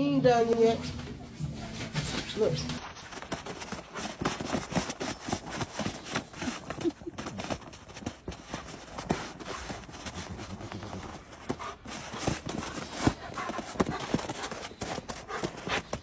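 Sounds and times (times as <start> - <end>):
dog steps crunching on snow: 1.8 - 16.0.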